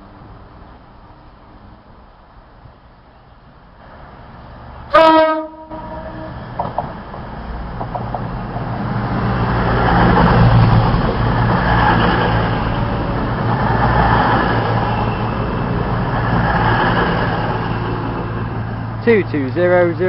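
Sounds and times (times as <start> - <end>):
diesel train engine hum: 0.0 - 20.0
wheel and rail noise: 0.0 - 20.0.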